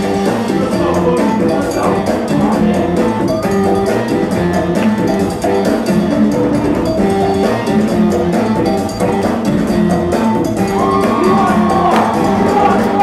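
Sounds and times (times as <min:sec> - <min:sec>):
break music with drum beat: 0:00.0 - 0:13.0.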